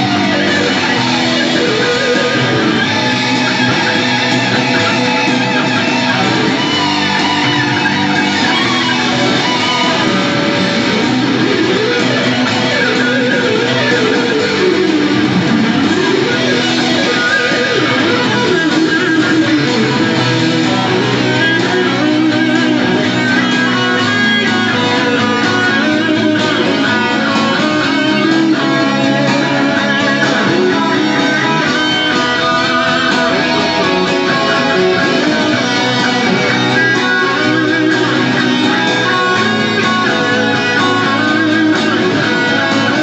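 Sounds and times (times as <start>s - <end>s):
backing track music: 0.0s - 43.0s
electric guitar lead melody: 0.0s - 43.0s.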